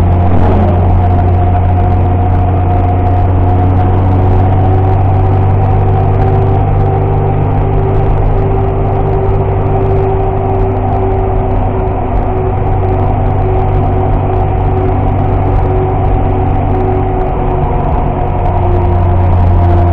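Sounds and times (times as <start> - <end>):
car engine running: 0.0 - 19.9
tyre and road noise: 0.0 - 19.9.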